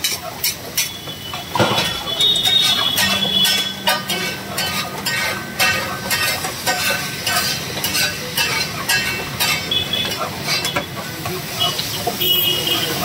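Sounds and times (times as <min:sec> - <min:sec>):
metal masher scraping a griddle: 0:00.0 - 0:11.8
food sizzling: 0:00.0 - 0:13.0.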